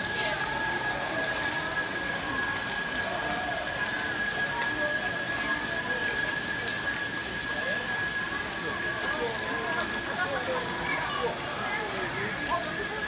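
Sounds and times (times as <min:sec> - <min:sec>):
constant high-pitched tone: 0:00.0 - 0:13.0
faint voices: 0:00.0 - 0:13.0
rushing water: 0:00.0 - 0:13.0.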